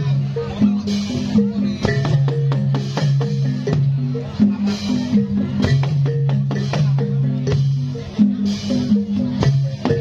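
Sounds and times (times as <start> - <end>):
gamelan drums and percussion: 0.0 - 10.0.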